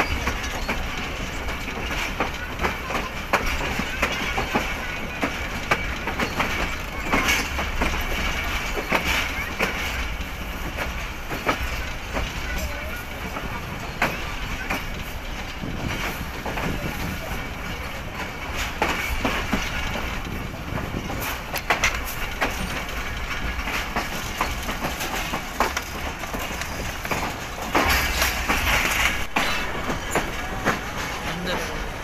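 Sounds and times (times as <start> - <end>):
train wheels rumbling on track: 0.0 - 32.0
wheels clattering over rail joints: 0.0 - 32.0.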